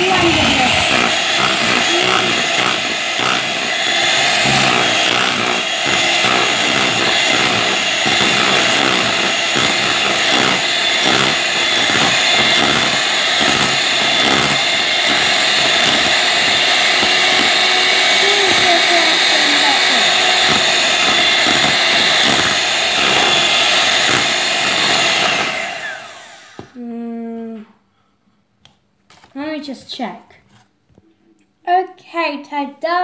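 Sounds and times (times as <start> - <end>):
electric hand mixer running: 0.0 - 26.8.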